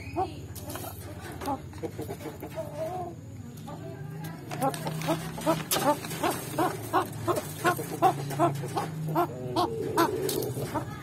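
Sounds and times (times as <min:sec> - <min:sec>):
pheasant clucking: 0:00.0 - 0:03.2, 0:04.5 - 0:11.0.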